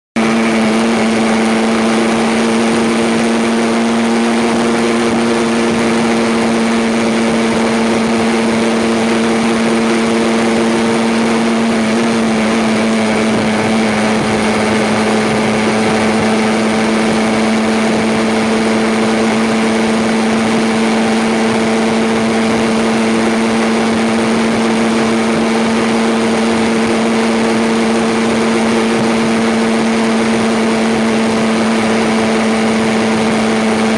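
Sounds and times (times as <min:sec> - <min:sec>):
two-stroke motorcycle engine running: 0:00.2 - 0:33.9.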